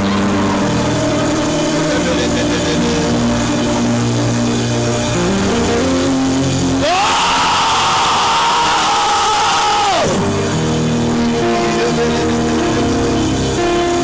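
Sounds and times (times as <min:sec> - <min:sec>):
held synthesizer chords: 0:00.0 - 0:14.0
loud rock music: 0:00.0 - 0:14.0.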